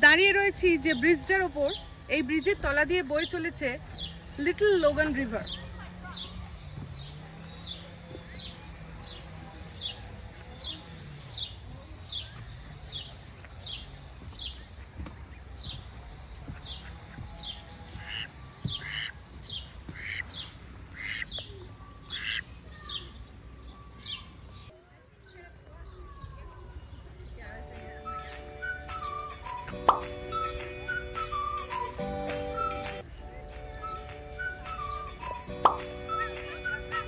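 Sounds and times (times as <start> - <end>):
bird chirping: 0.1 - 37.0.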